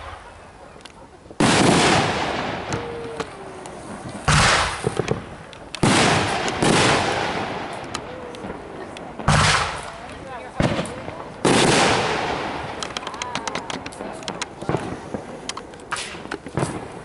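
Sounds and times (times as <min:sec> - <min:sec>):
fireworks booming: 0:00.0 - 0:17.0
fireworks crackling pops: 0:00.0 - 0:17.0.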